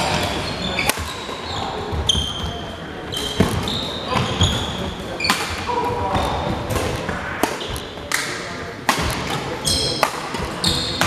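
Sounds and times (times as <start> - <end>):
court shoes squeaking: 0.0 - 8.4, 9.0 - 11.0.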